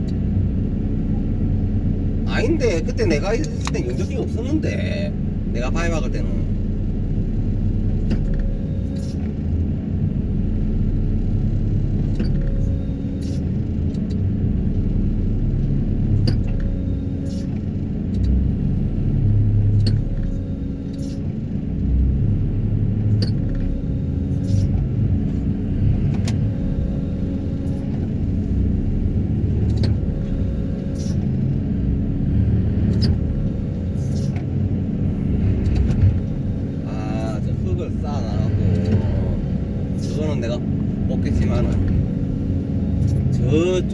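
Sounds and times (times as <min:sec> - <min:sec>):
excavator diesel engine and hydraulics: 0:00.0 - 0:43.9.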